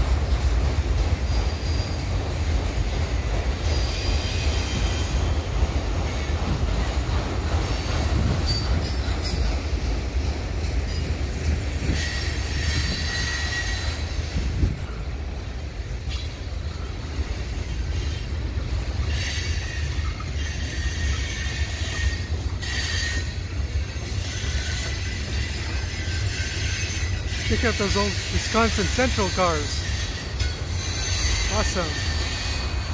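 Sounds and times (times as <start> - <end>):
steel wheels squealing on rail: 0.0 - 32.9.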